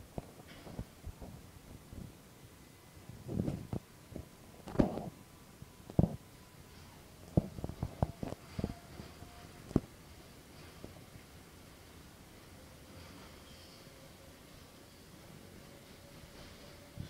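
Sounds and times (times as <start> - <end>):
faint subway car hum: 0.0 - 17.0.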